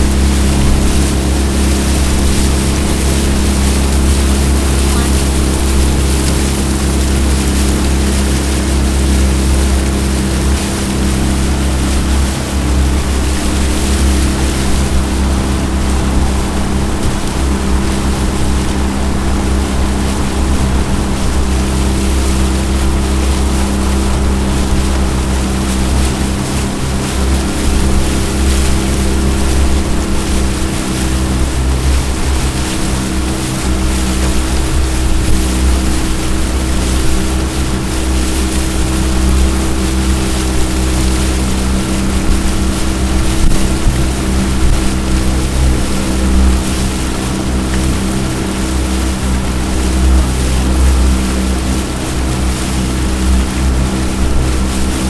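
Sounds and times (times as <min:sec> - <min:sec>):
outboard motor drone: 0:00.0 - 0:55.0
rushing water: 0:00.0 - 0:55.0
wind: 0:00.0 - 0:55.0.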